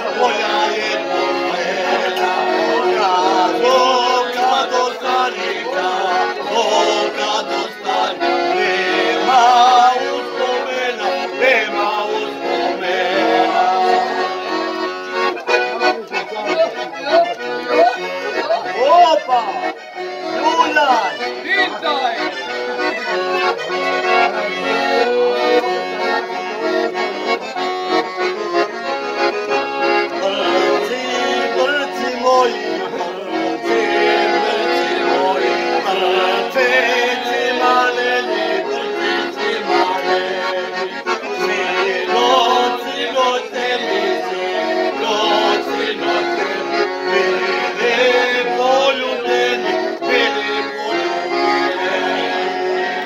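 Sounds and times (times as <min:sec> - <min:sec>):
accordion folk melody: 0:00.0 - 0:53.0.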